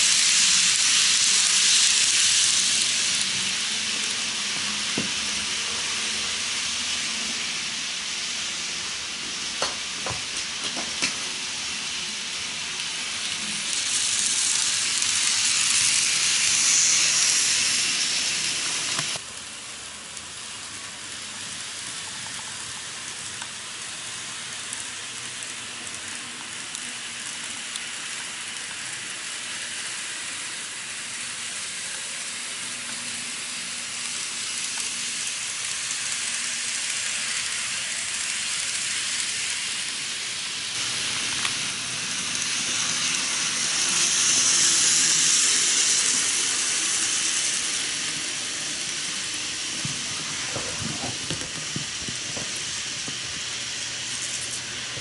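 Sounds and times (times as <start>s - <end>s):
model trains running on track: 0.0s - 55.0s.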